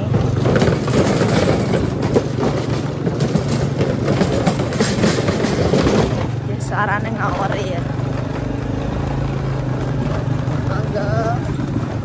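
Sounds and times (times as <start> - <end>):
motorcycle engine running: 0.0 - 12.0
wooden planks rattling and knocking: 0.0 - 12.0.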